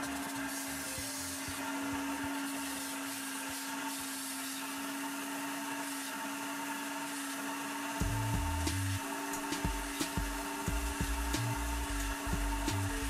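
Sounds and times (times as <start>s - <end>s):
vacuum motor whining: 0.0s - 13.0s.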